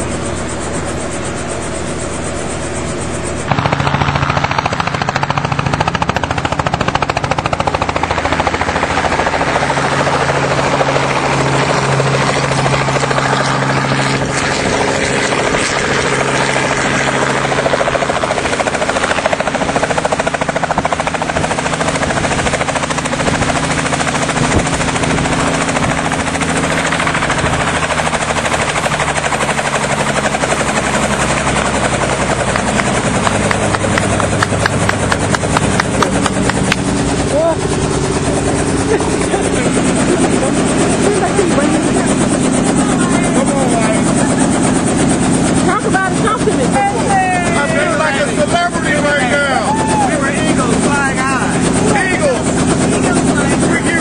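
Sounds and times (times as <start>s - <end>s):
helicopter engine hum: 0.0s - 54.0s
helicopter rotor chop: 0.0s - 54.0s.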